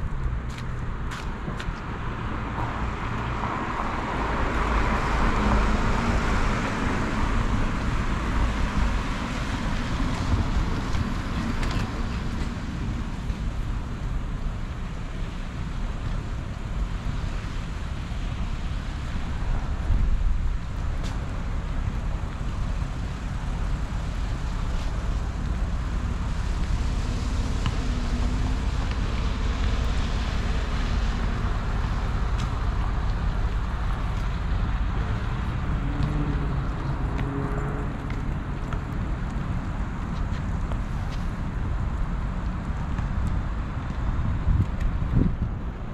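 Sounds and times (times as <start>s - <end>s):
cars passing on wet road: 0.0s - 45.9s
wind rumble on microphone: 0.0s - 45.9s.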